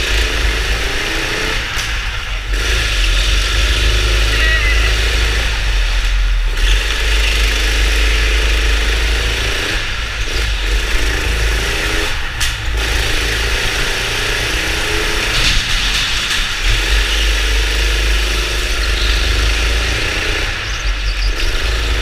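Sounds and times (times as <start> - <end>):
go-kart engine revving: 0.0 - 22.0.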